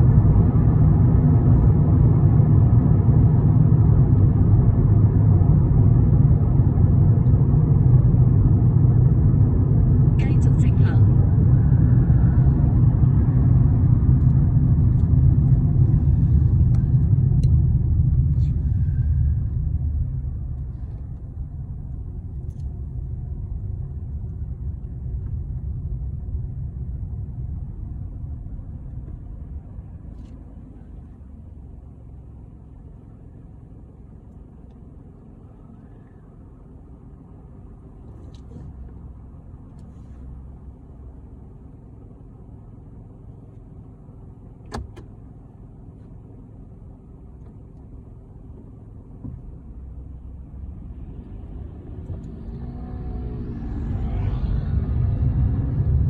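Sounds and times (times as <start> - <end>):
low steady rumbling: 0.0 - 56.0.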